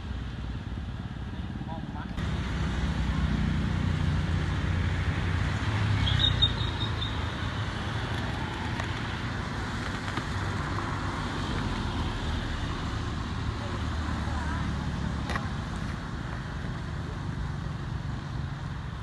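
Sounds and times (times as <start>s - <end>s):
roadside noise: 0.0s - 19.0s
vehicle engine humming: 0.0s - 19.0s.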